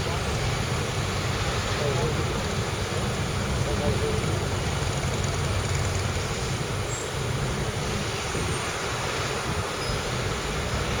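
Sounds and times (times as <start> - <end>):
train rumbling through station: 0.0 - 11.0.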